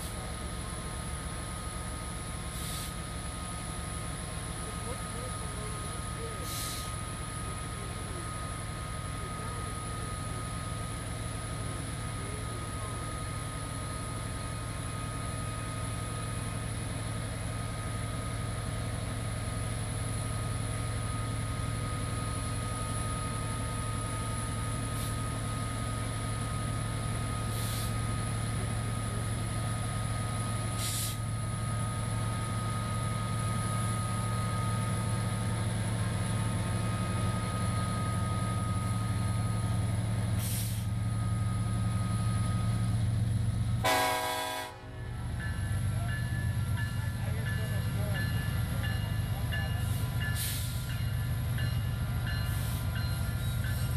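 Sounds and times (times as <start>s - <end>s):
diesel locomotive engine drone: 0.0s - 53.9s.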